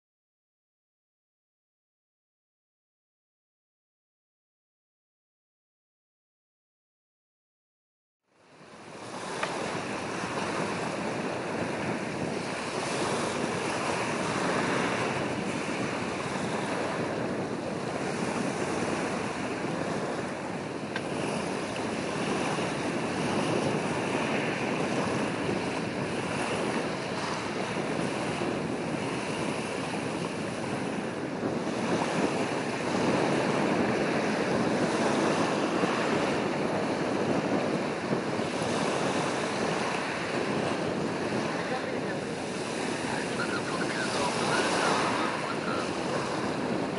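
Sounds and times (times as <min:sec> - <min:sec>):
sea waves: 0:08.3 - 0:46.9
wind on microphone: 0:08.3 - 0:46.9.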